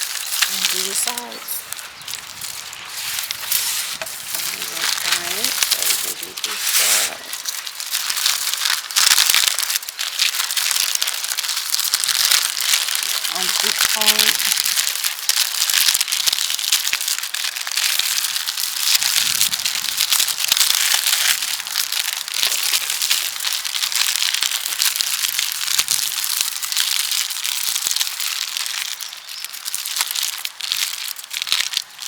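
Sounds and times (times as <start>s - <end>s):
parchment paper crinkling: 0.0s - 32.0s.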